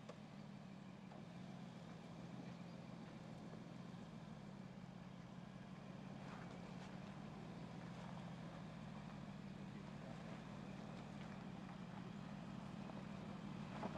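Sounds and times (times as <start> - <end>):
engine low hum: 0.0 - 13.9.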